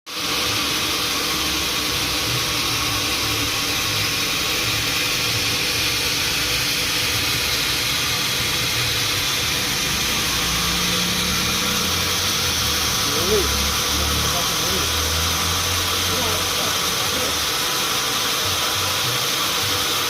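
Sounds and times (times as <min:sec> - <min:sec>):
sawmill machinery humming: 0:00.1 - 0:20.0.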